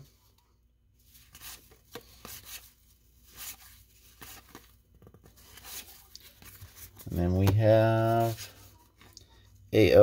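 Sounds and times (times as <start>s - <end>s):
cards sliding and rustling: 1.0s - 9.1s.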